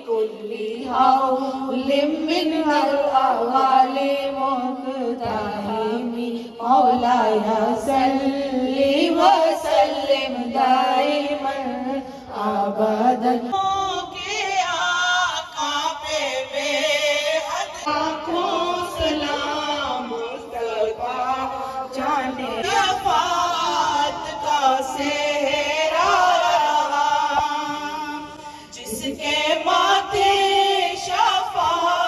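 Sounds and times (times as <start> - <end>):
women singing in unison: 0.0 - 32.0.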